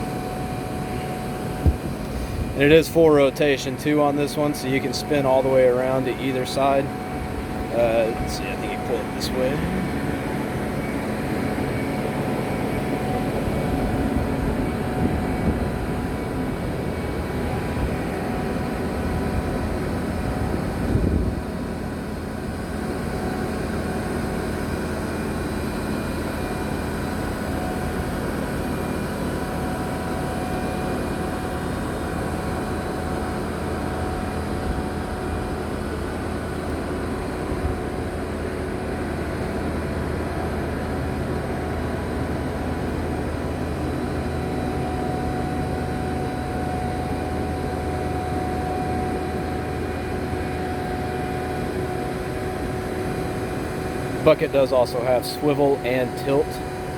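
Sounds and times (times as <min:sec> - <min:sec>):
diesel engine running: 0:00.0 - 0:56.9
hydraulic whine: 0:00.0 - 0:56.9.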